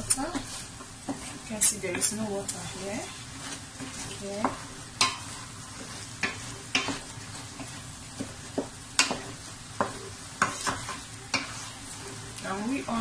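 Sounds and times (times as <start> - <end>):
food sizzling in oil: 0.0 - 13.0
wooden spoon scraping a pot: 0.0 - 13.0.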